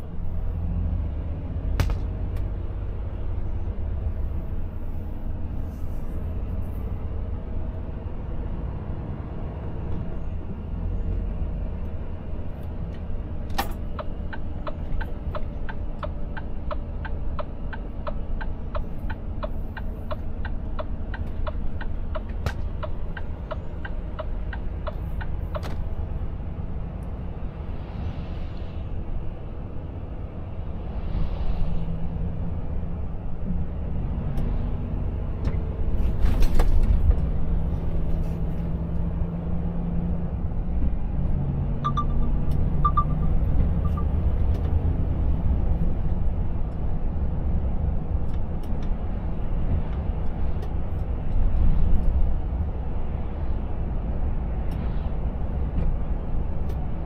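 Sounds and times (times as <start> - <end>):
truck engine rumble: 0.0 - 57.0.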